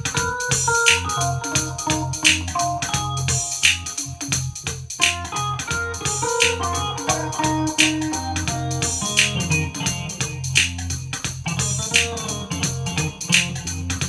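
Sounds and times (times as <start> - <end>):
electronic organ chords and melody: 0.0 - 14.0
steady percussion beat: 0.0 - 14.0
sustained bass line: 0.0 - 14.0.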